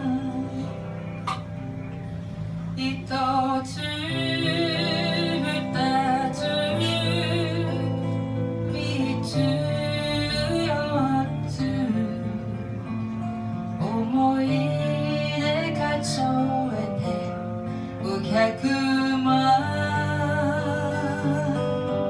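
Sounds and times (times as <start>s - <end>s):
woman singing a folk ballad: 0.0s - 0.9s, 2.8s - 22.0s
acoustic guitar: 0.0s - 22.0s.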